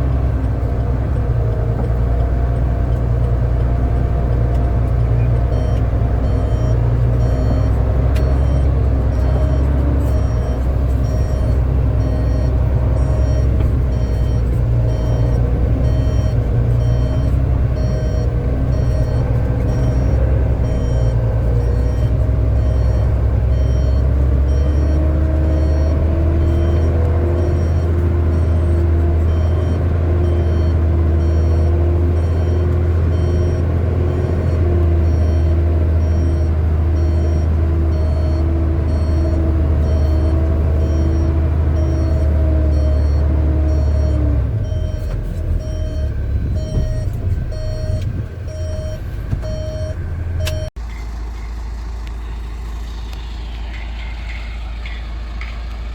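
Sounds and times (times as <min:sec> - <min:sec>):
heavy diesel machinery engine: 0:00.0 - 0:55.9
reversing alarm beeping: 0:04.9 - 0:51.7.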